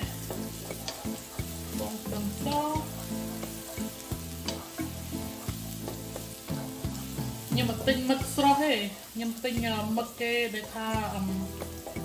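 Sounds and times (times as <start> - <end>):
background music with held notes: 0.0 - 12.0
light crackling hiss: 0.0 - 12.0.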